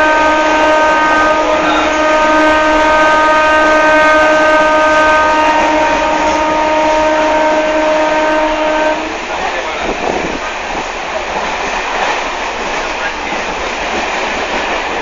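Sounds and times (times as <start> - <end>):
electric train running rumble: 0.0 - 15.0.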